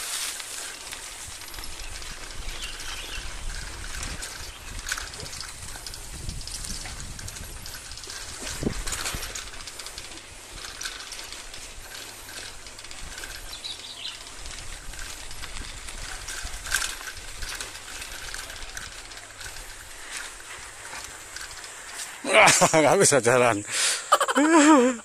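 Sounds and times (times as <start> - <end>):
bicycle freewheel clicking: 0.0 - 23.5
tyres rolling on dirt track: 0.0 - 25.0.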